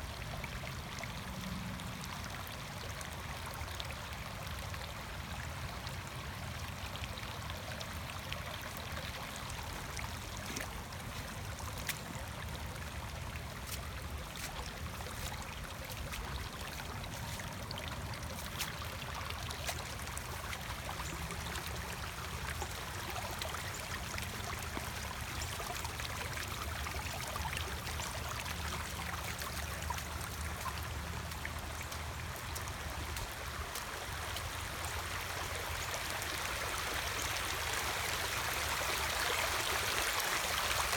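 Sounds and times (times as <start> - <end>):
water running and trickling: 2.8 - 40.9.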